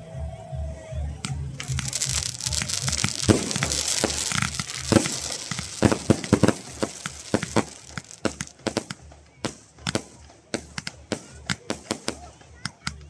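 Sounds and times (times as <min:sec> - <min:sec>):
fireworks crackling: 0:01.5 - 0:12.7
fireworks bangs: 0:01.6 - 0:12.4.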